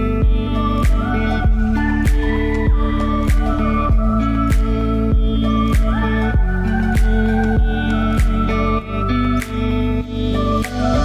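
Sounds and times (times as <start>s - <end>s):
synth chords over electronic beat: 0.0s - 11.0s.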